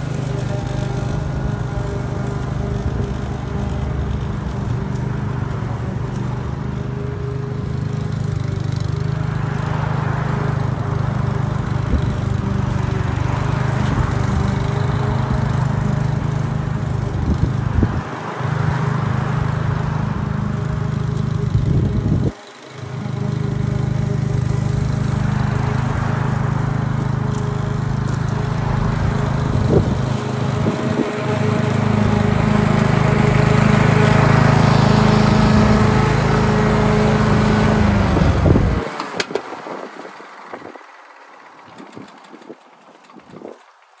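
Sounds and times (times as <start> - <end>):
lawn mower running: 0.0 - 44.0.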